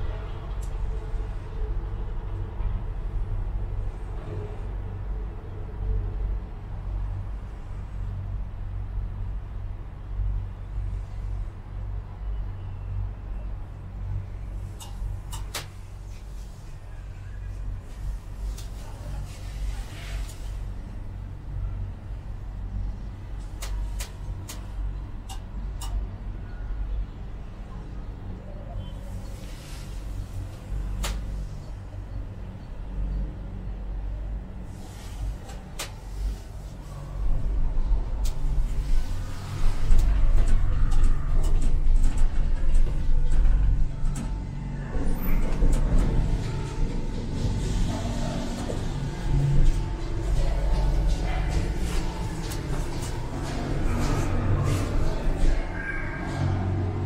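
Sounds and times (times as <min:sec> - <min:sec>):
cable car cabin rumble: 0:00.0 - 0:57.0.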